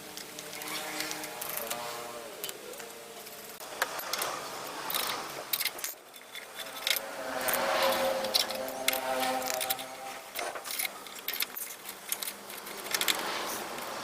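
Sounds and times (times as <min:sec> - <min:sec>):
metal tools clinking and scraping: 0:00.1 - 0:14.0.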